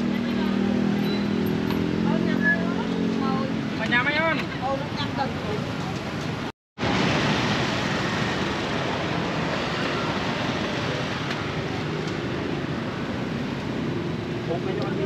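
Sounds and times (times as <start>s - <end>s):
street bustle: 0.0s - 15.0s
passing traffic hiss and rumble: 1.9s - 15.0s.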